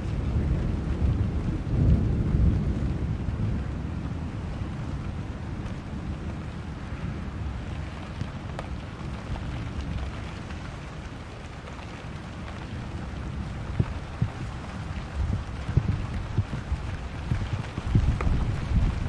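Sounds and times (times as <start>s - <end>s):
low rumble of thunder: 0.0s - 19.0s
steady rain: 0.0s - 19.0s.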